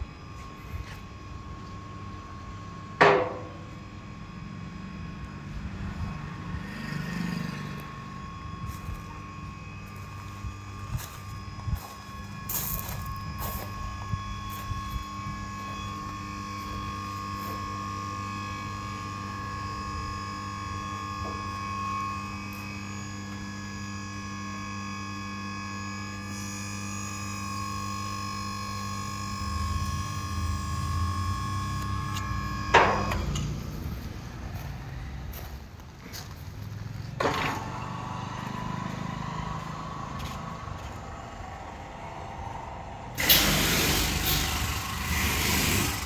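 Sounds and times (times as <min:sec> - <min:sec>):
hydraulic pump motor humming: 0:00.0 - 0:35.2, 0:36.6 - 0:46.0.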